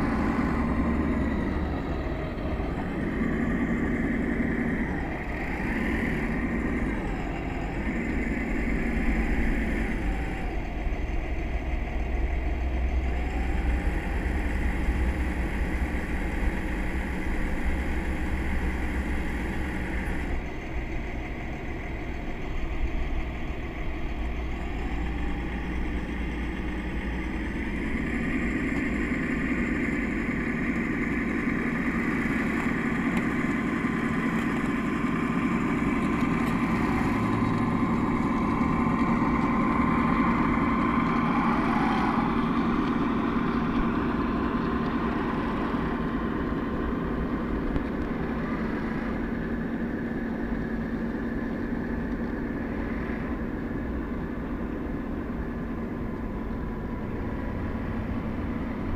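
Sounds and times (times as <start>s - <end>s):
model tractor motor whine: 0.0s - 58.9s.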